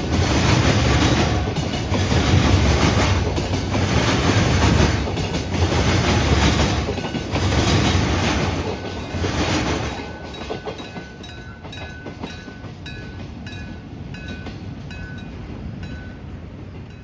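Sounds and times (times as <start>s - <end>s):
passing train rumble: 0.0s - 17.0s.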